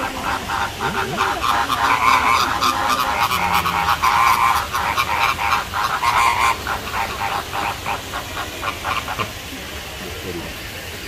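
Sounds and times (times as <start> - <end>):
flock of birds calling: 0.0 - 10.7.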